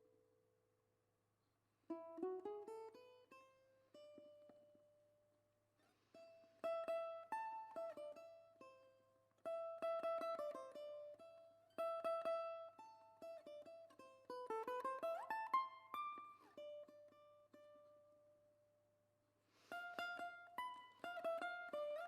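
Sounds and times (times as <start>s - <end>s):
plucked string instrument music: 1.8s - 5.2s, 5.8s - 18.6s, 19.5s - 22.0s.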